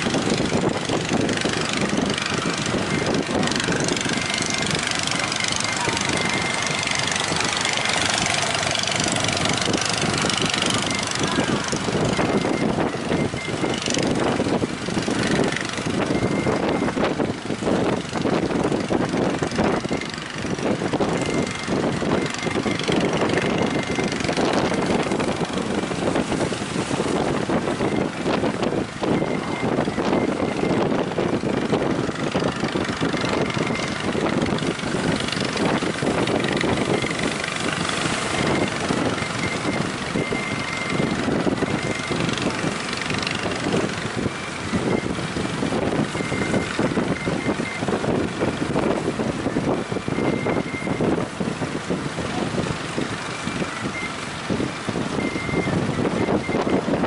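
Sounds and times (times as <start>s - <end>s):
engine running: 0.0s - 57.0s
wind buffeting: 0.0s - 57.0s.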